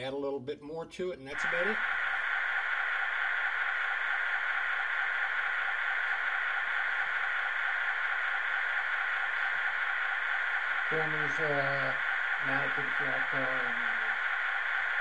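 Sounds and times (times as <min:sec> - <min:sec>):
electronic static hiss: 0:01.4 - 0:15.0.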